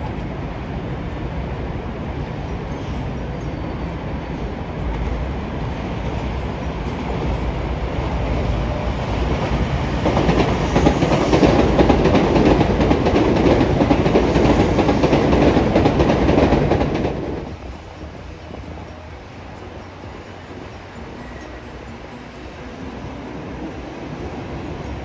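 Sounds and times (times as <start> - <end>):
train wheels clattering over rail joints: 0.0 - 25.0.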